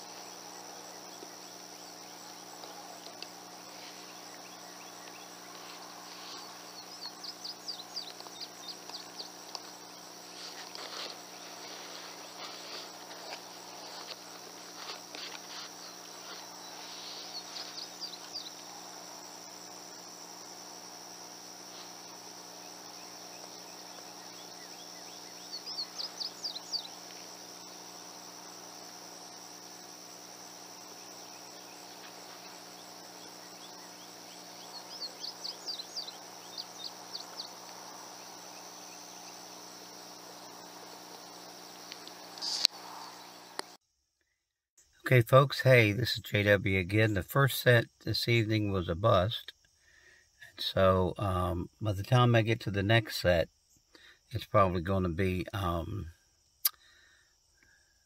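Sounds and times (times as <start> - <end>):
insect chirps: 0.0 - 58.0
insects droning: 0.0 - 58.0.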